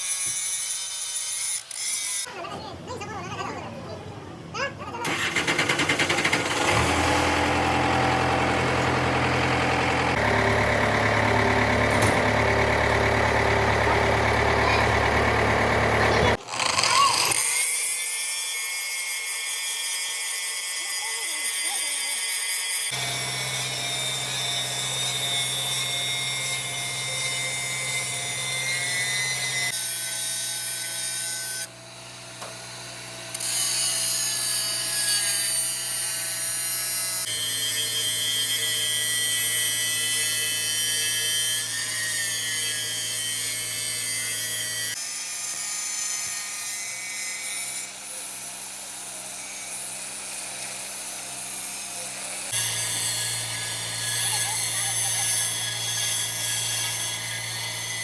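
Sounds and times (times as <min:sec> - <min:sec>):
power tool humming and whining: 0:00.0 - 0:02.3, 0:05.3 - 0:58.0.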